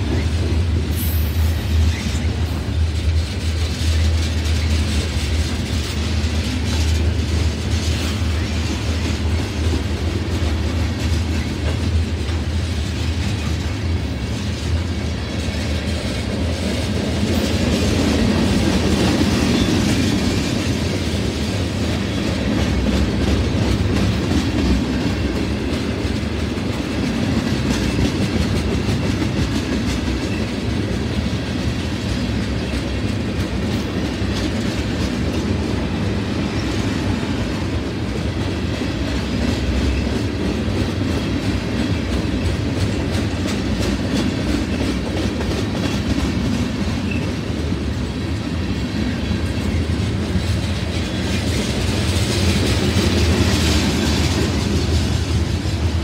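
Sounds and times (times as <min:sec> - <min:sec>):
clickety-clack over rail joints: 0:00.0 - 0:56.0
steel wheels rumbling on rail: 0:00.0 - 0:56.0.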